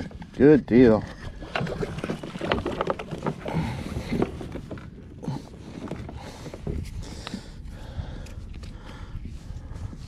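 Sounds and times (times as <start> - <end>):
water against hull: 0.0 - 10.0.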